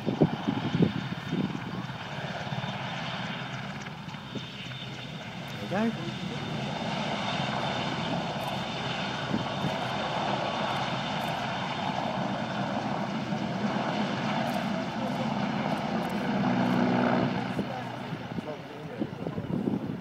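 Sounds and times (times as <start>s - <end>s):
helicopter turbines and rotor: 0.0s - 20.0s.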